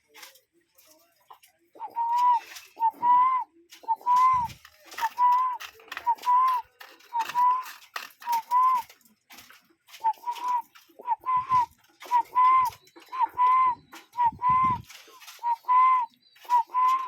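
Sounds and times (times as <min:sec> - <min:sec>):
sharp crackles: 0:00.1 - 0:17.0
cuckoo calling: 0:01.7 - 0:17.0.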